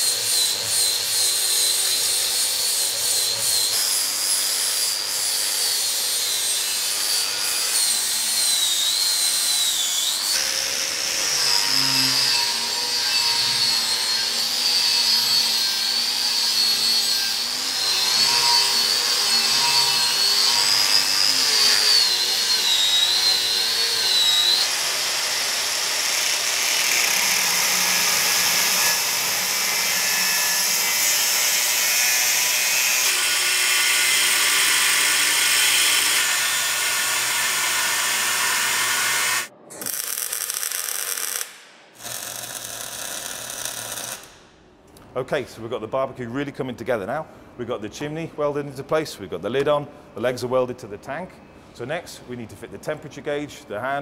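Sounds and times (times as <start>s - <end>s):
angle grinder on steel pipe: 0.0s - 44.3s.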